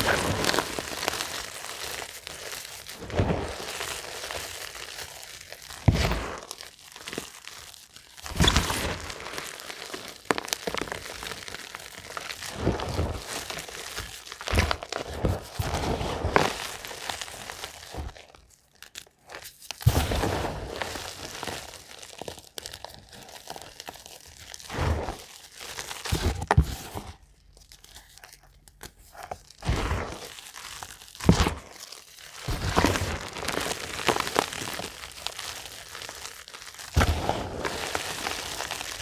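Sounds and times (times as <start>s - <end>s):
hands crushing chalk: 0.0s - 39.0s.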